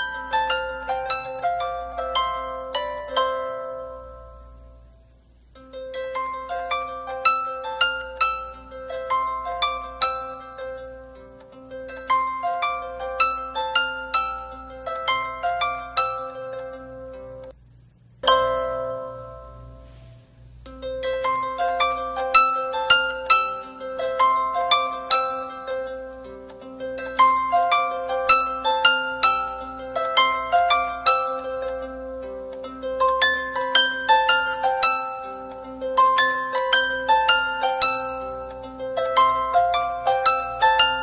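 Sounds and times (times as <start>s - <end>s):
plucked-string melody: 0.0s - 17.6s, 18.2s - 41.0s.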